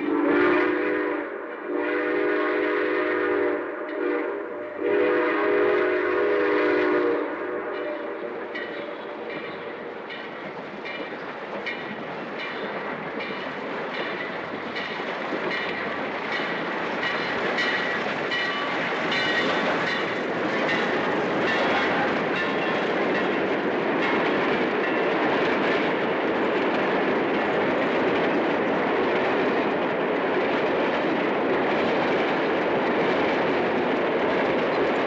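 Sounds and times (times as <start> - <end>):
train rumble: 0.0 - 35.0
train wheels clacking over rail joints: 4.8 - 35.0.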